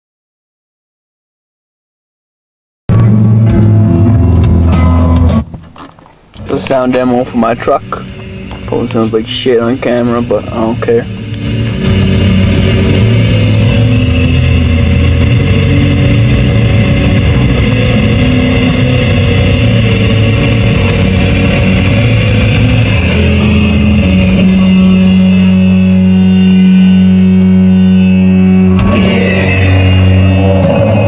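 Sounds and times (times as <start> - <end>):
slow music with deep bass: 2.9 - 31.0.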